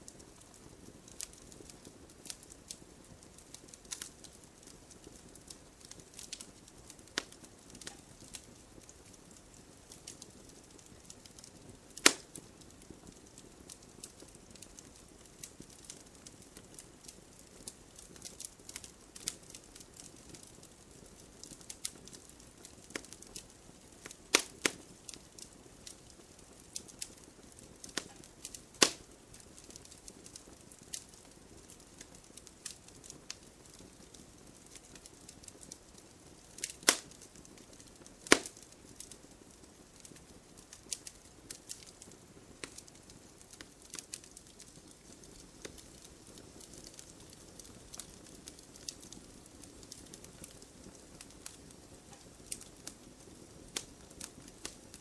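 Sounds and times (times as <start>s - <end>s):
campfire crackling: 0.0s - 55.0s
sharp fire pops: 3.6s - 22.2s, 22.8s - 26.0s, 26.6s - 35.7s, 36.6s - 40.1s, 40.8s - 53.0s.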